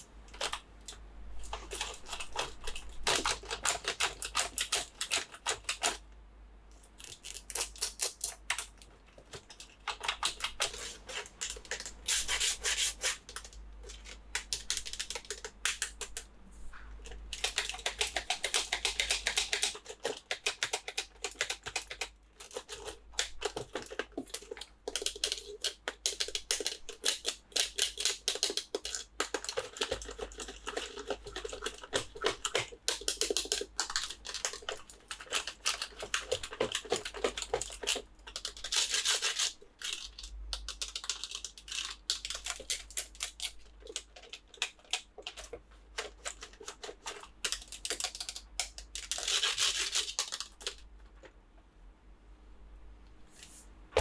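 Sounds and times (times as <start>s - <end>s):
packaging crinkling: 0.3s - 6.0s, 7.0s - 50.8s
packaging clicks and taps: 7.0s - 50.8s.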